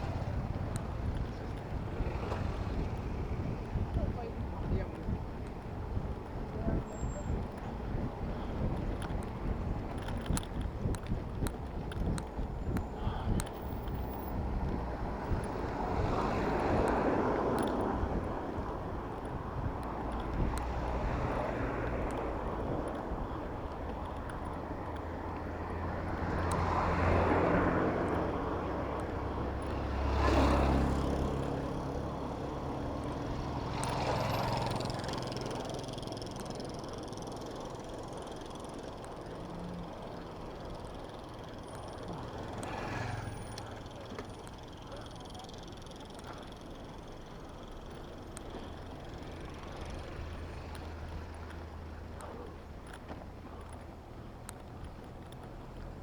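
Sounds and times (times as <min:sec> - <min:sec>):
low engine hum: 0:00.0 - 0:56.0
motor vehicles passing: 0:00.0 - 0:56.0.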